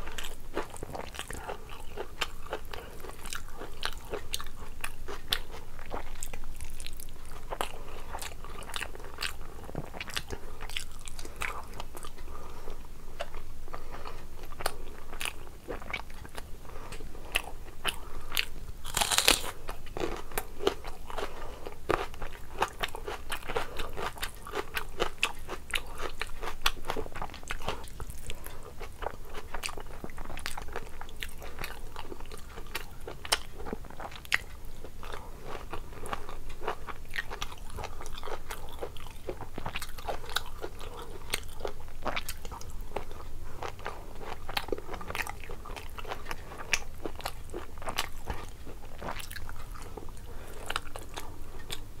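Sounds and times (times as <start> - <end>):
person chewing and crunching: 0.0 - 52.0.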